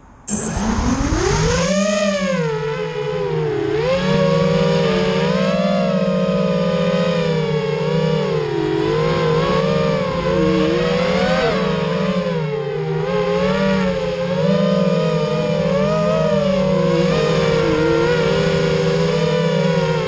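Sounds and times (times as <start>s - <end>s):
quadcopter motors whining: 0.3s - 20.0s.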